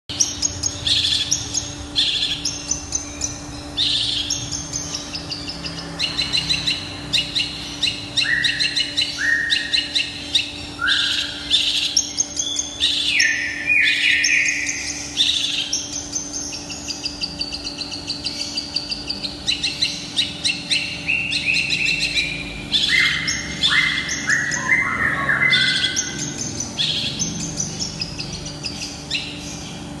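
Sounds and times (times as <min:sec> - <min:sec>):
bird singing chattering song: 0:00.1 - 0:30.0.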